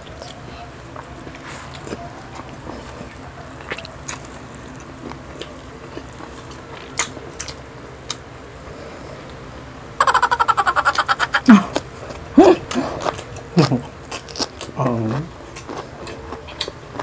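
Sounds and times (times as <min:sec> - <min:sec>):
chewing and biting food: 0:00.0 - 0:08.3, 0:10.0 - 0:17.0.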